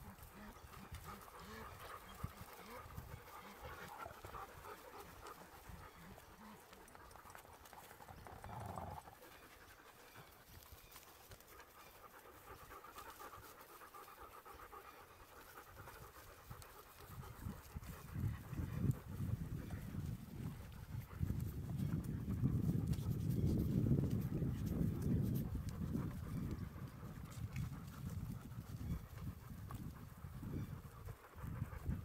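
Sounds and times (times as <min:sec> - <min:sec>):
dogs panting: 0:00.0 - 0:32.0.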